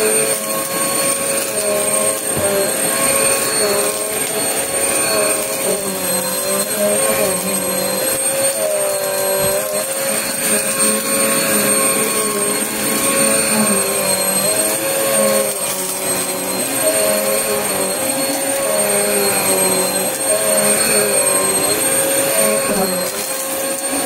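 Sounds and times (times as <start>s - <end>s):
vacuum cleaner running over carpet: 0.0s - 24.0s
vacuum sucking up crunchy debris: 0.0s - 24.0s.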